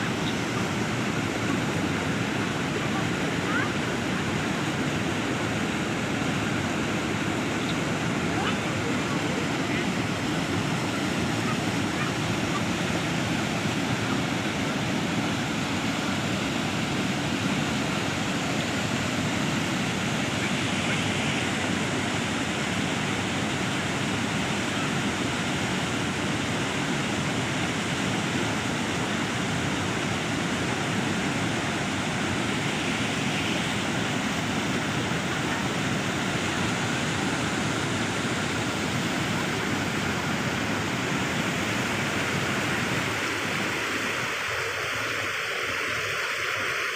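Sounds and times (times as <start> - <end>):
fast-flowing water rushing: 0.0 - 46.9.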